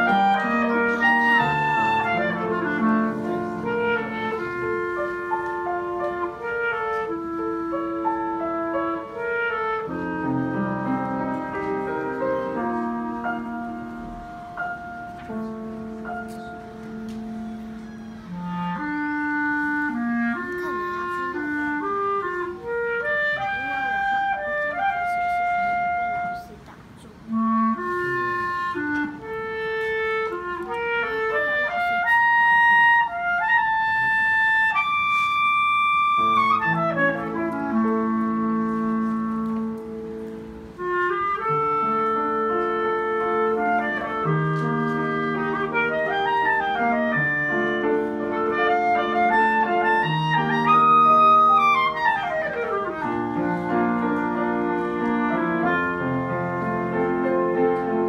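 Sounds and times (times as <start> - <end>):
clarinet melody: 0.0 - 58.0
piano accompaniment: 0.0 - 58.0.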